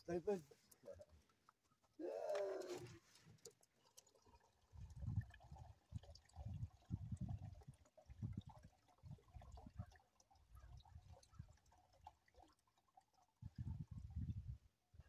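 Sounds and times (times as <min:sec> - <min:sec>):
water glugging into container: 0:00.0 - 0:14.7.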